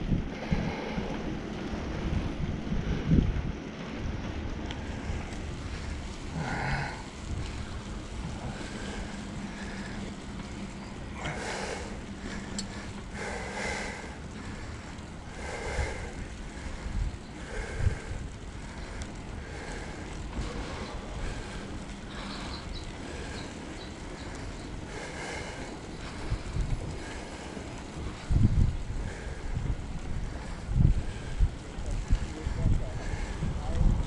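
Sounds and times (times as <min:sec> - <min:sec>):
bicycle rolling rumble: 0:00.0 - 0:34.0
wind buffeting microphone: 0:00.0 - 0:34.0.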